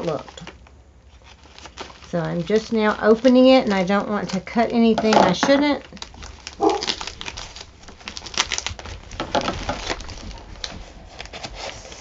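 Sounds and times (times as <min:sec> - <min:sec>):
plastic envelope crinkling: 0:00.0 - 0:12.0.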